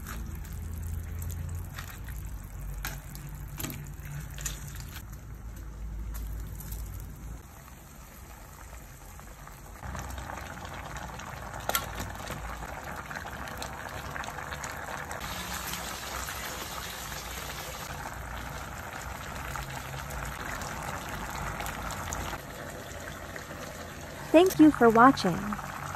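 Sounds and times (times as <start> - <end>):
pot simmering and bubbling: 0.0 - 25.9.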